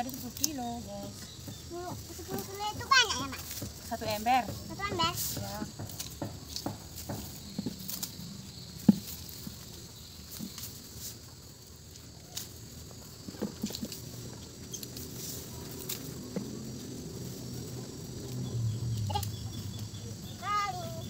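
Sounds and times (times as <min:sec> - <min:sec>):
rustling of stalks being stripped: 0:00.0 - 0:21.0.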